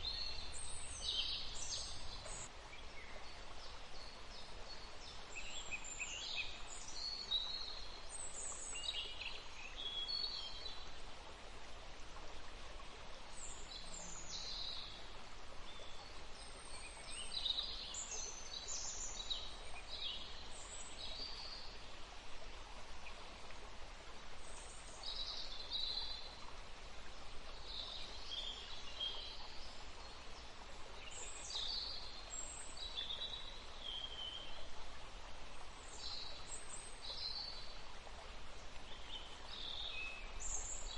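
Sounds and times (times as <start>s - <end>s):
faint background hiss: 0.0s - 40.9s.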